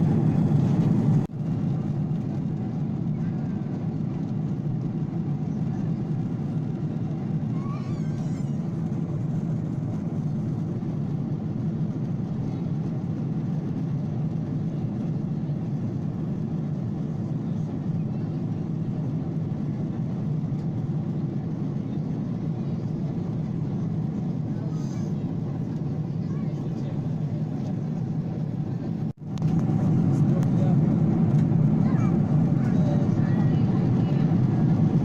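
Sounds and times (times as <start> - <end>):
airliner cabin drone: 0.0 - 35.0.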